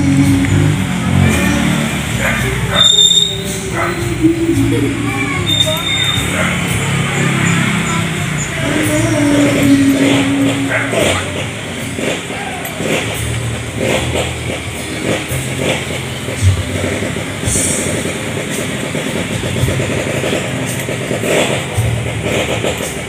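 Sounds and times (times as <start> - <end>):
engine humming low: 0.0 - 23.0.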